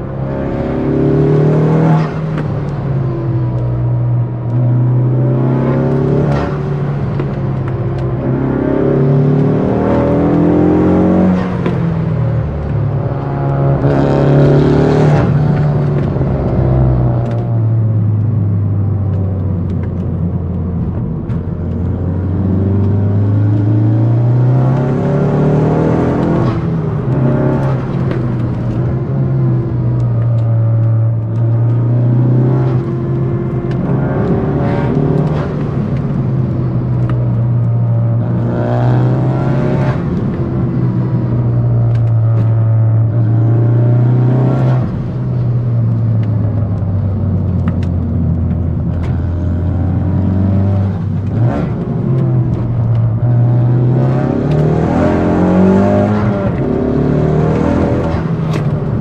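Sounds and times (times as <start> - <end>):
turbocharged car engine accelerating: 0.0 - 59.0.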